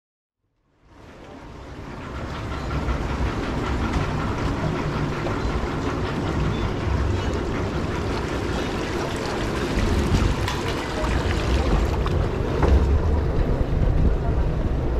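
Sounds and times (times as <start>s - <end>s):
steady low rumble: 0.8s - 14.9s
water rushing in a channel: 0.8s - 14.9s.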